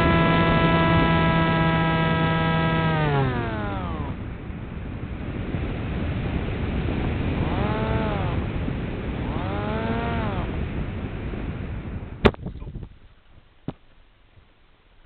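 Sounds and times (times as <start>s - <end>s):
electric motor and propeller running: 0.0s - 12.2s
wind noise on microphone: 0.0s - 14.5s.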